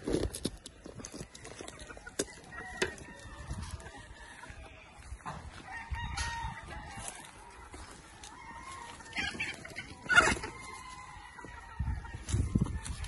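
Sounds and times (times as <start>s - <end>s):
roosters crowing and clucking: 0.0s - 13.0s.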